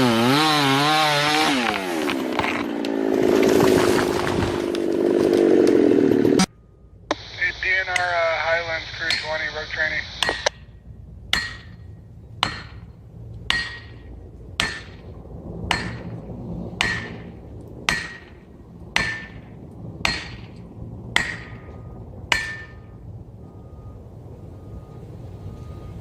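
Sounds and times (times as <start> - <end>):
low steady rumble: 1.7 - 26.0.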